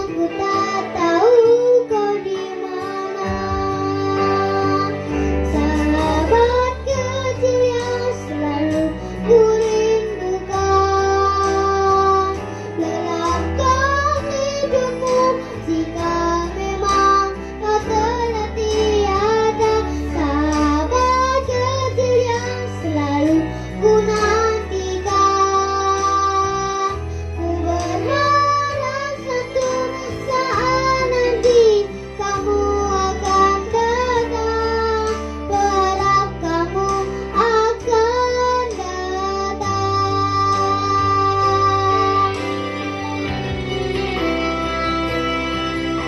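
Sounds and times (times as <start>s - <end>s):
backing track with guitar and bass: 0.0s - 46.0s
person singing pop song: 0.0s - 46.0s.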